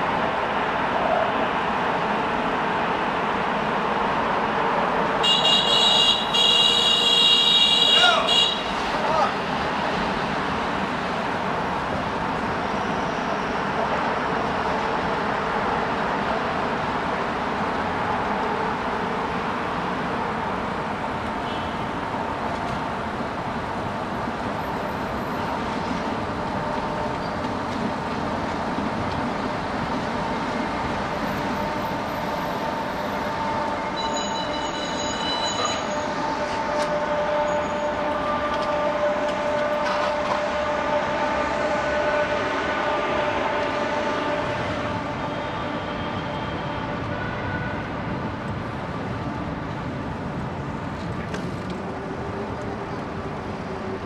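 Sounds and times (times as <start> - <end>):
street traffic noise: 0.0 - 54.0.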